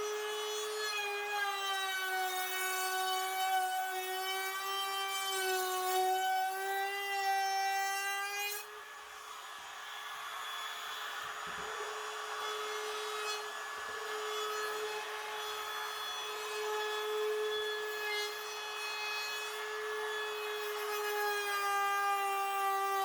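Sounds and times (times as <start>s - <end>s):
power tool whining on wood: 0.0s - 23.0s.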